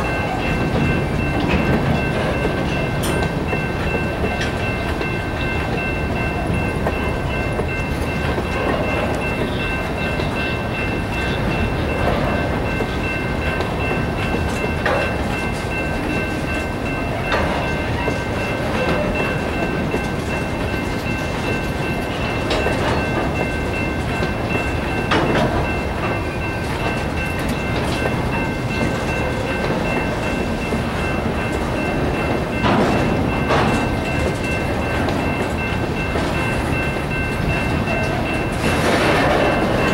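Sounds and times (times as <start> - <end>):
crossing bell ringing: 0.0 - 39.9
train wheel rumble: 0.0 - 39.9
wheels clacking over rail joints: 0.1 - 39.9.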